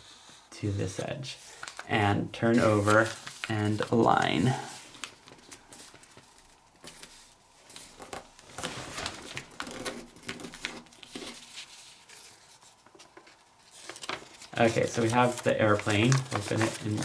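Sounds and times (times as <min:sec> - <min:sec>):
paper rustling and crinkling: 0:01.0 - 0:17.0.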